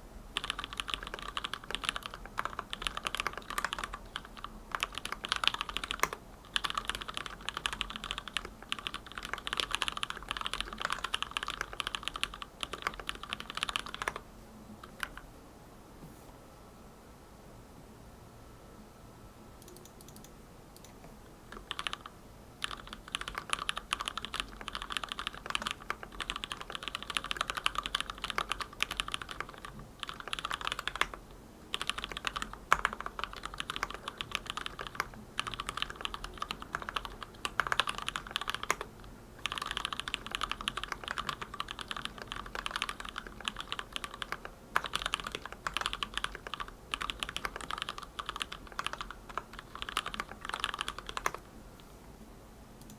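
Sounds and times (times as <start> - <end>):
mechanical keyboard typing: 0.4 - 14.2, 14.8 - 15.2, 19.6 - 51.5.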